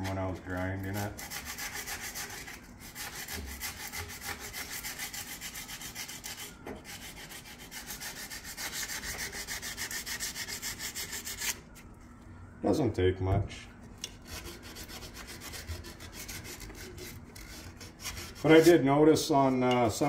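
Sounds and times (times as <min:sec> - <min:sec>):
sandpaper rasping on wood: 0:00.0 - 0:11.6, 0:14.2 - 0:18.8.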